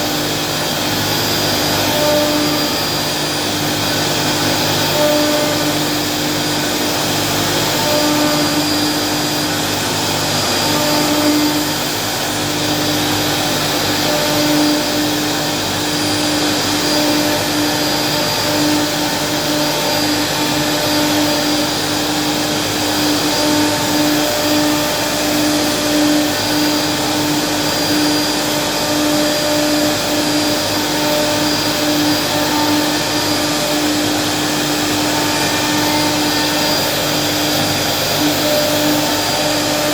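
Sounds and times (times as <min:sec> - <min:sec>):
cnc router spindle whine: 0:00.0 - 0:39.9.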